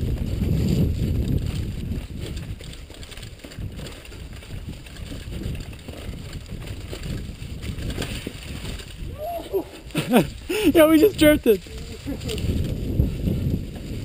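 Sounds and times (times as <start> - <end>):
bike rattling over bumps: 0.0 - 14.0
wind rumble on microphone: 0.0 - 14.0
tyres rolling over leaves: 0.2 - 14.0.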